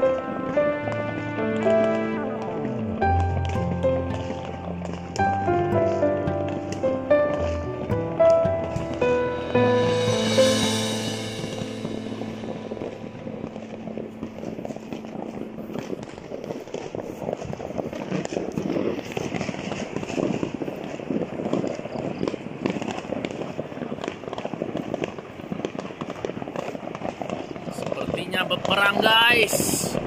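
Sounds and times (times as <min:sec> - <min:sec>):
distant fireworks crackling: 0:00.0 - 0:30.0.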